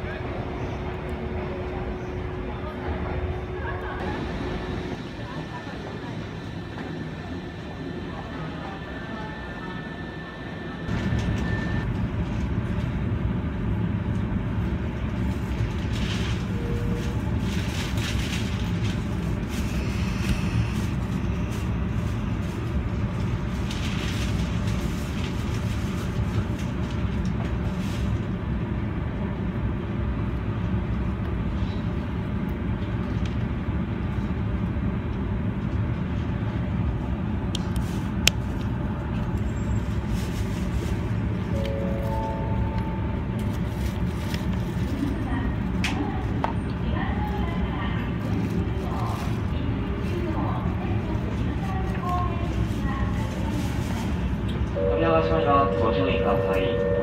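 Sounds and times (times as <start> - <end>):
low hum of stopped train: 0.0 - 57.0.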